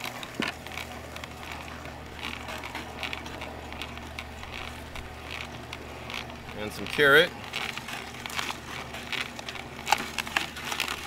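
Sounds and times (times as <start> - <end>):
crackling and clicking of crushing: 0.0 - 11.0
juicer motor hum: 0.0 - 11.0.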